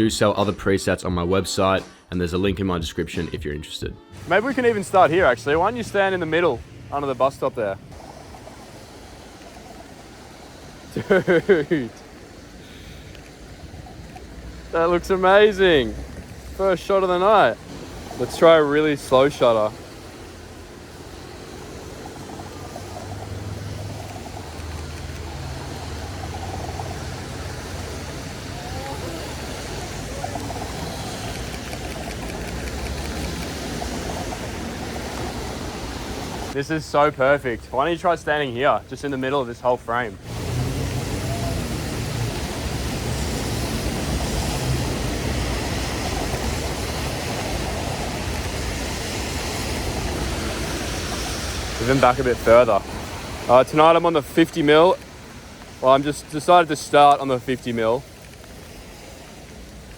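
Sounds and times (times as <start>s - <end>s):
car engine humming: 4.2s - 59.9s
heavy rain hissing: 4.2s - 59.9s.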